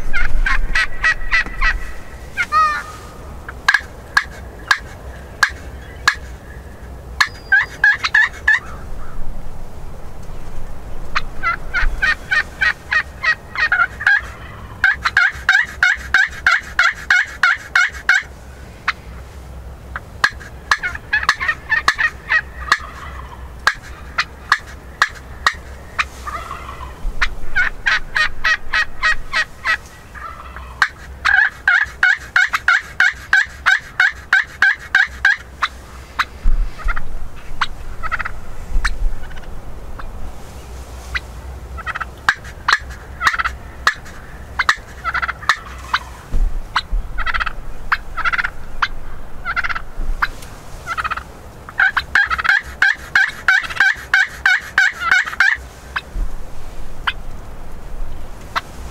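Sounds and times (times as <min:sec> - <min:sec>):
wild turkeys gobbling: 0:00.0 - 0:09.3, 0:11.0 - 0:56.2, 0:57.0 - 0:57.5, 0:58.4 - 0:58.9.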